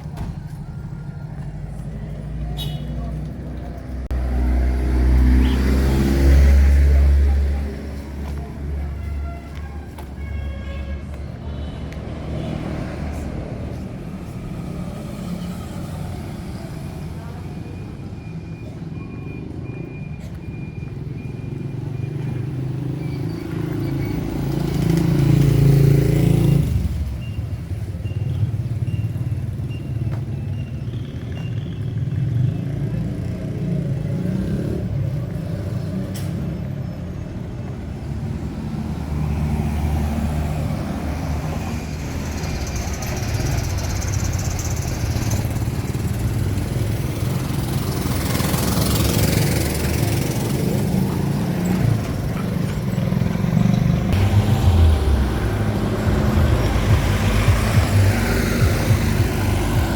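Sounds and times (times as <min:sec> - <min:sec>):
vehicle engines passing: 0:00.0 - 0:59.9.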